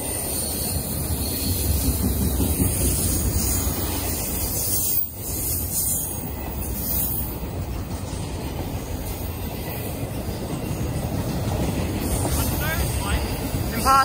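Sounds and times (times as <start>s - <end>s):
freight train wheels rumbling on rails: 0.0s - 14.0s.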